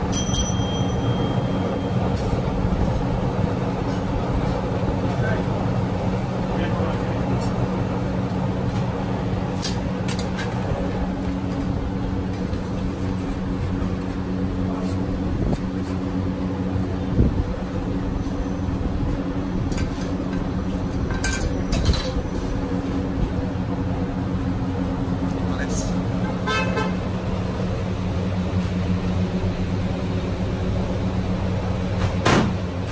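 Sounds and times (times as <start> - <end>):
low mechanical hum: 0.0 - 32.9
street traffic: 0.0 - 32.9.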